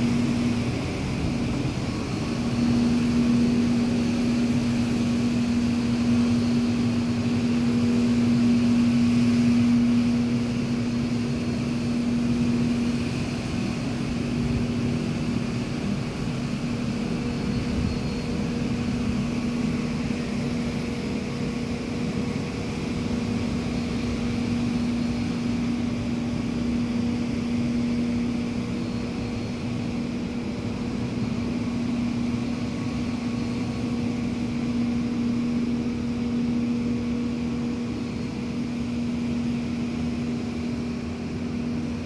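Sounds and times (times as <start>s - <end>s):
street sweeper truck running: 0.0s - 42.0s.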